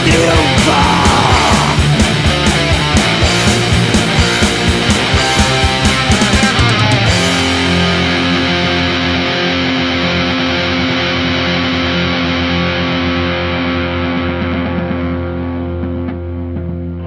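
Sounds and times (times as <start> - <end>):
distorted electric guitar chord ringing: 0.0 - 17.0.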